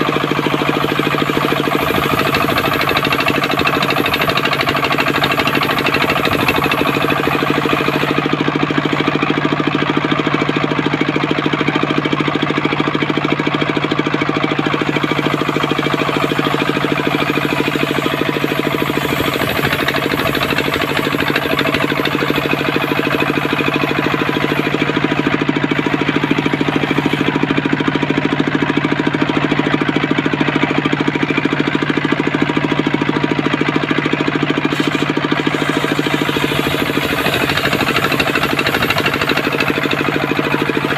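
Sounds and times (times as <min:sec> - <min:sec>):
engine-driven circular saw running: 0:00.0 - 0:40.9.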